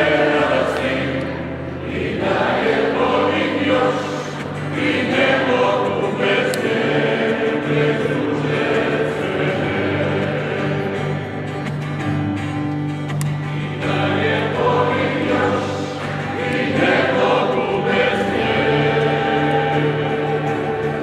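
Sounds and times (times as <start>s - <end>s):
choir singing: 0.0s - 11.8s, 13.3s - 21.0s.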